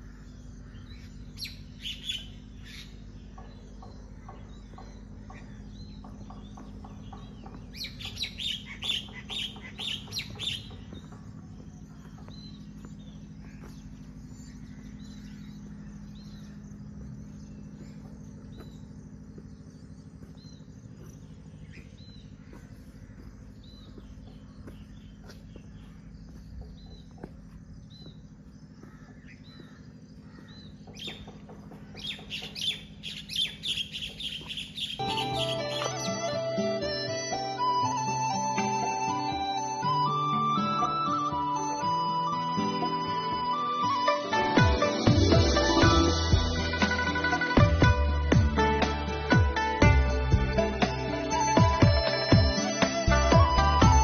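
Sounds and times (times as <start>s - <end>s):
small birds chirping: 0.0s - 48.2s
steady low hum: 0.0s - 54.0s.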